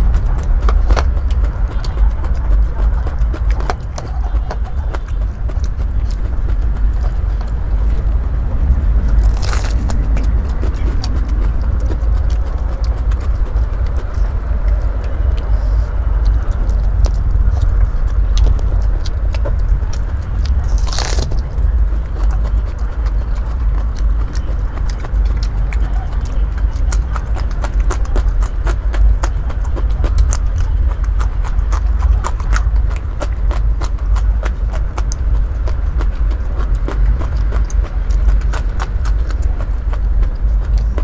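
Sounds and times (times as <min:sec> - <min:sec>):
crunchy chewing: 0:00.0 - 0:41.0
steady low rumble: 0:00.0 - 0:41.0.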